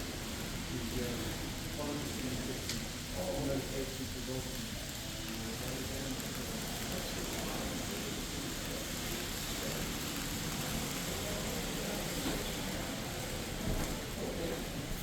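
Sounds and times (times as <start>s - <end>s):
faint voices talking: 0.0s - 15.0s.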